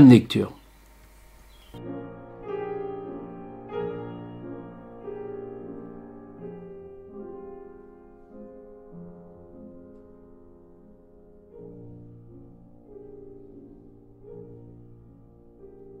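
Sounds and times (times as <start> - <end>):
slow sustained instrumental chords: 1.5 - 16.0.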